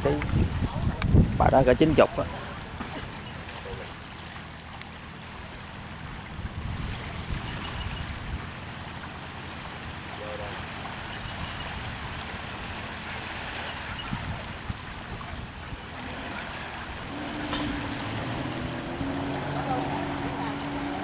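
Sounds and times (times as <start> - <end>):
sea water rushing: 0.0 - 21.0
wind: 0.0 - 21.0.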